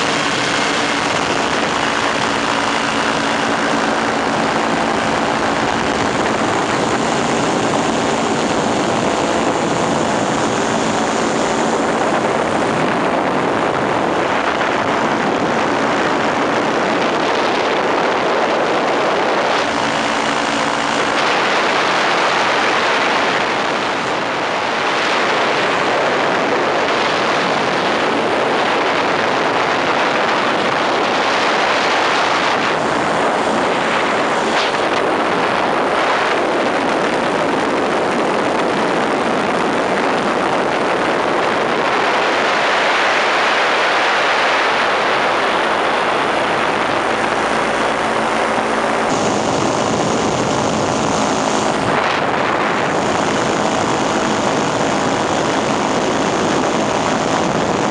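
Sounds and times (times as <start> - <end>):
aircraft engine and propeller: 0.0 - 57.9
wind rushing over microphone: 0.0 - 57.9.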